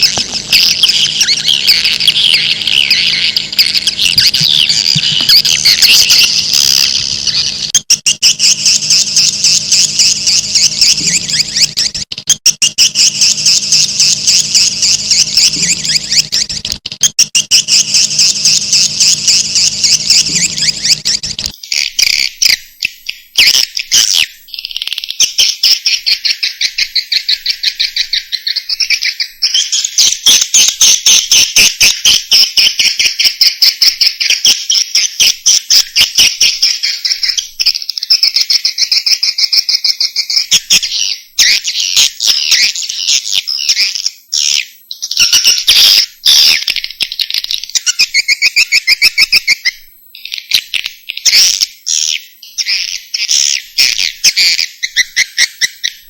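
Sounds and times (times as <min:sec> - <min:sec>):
swiftlet chirping twitters: 0:00.0 - 0:56.0.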